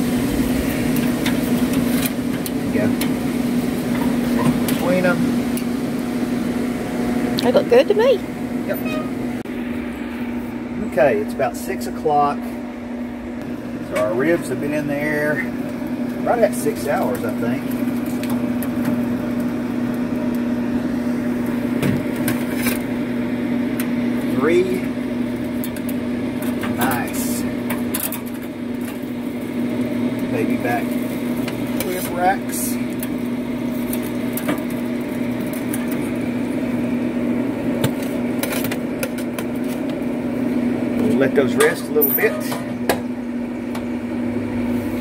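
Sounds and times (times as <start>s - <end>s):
smoker humming: 0.0s - 45.0s.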